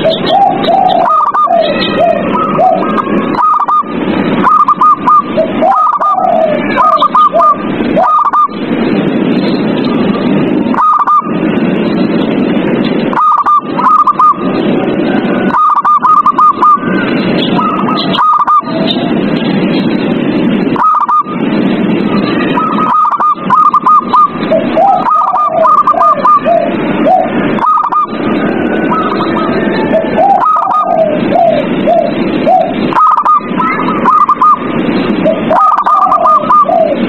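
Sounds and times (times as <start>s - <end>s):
doves cooing: 0.0s - 8.7s, 9.7s - 11.4s, 13.1s - 19.3s, 20.8s - 21.4s, 22.2s - 37.0s
loud steady background din: 0.0s - 37.0s.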